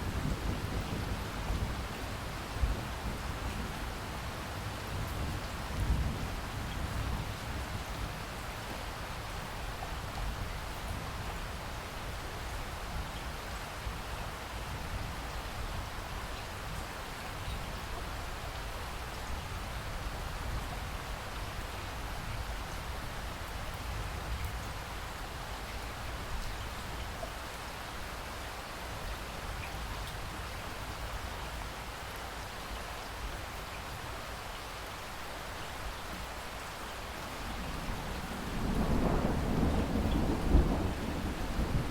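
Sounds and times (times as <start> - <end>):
rain pattering: 0.0 - 41.9.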